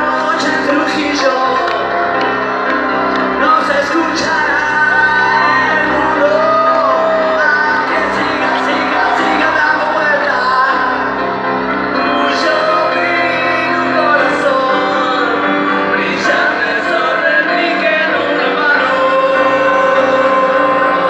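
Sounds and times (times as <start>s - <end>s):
live piano and singing: 0.0s - 21.0s.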